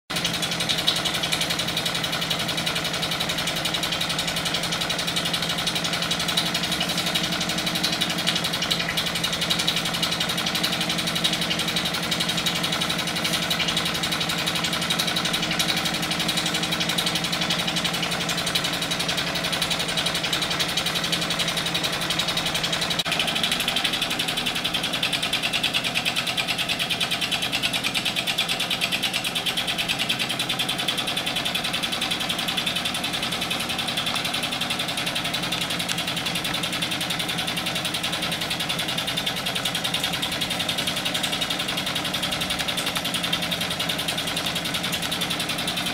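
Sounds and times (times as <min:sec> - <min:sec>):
toy steam engine chuffing: 0:00.1 - 0:45.9.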